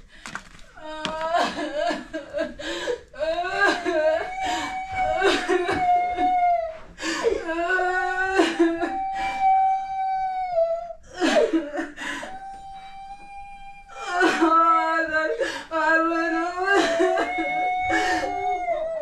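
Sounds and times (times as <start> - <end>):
woman wailing and weeping: 0.8 - 19.0.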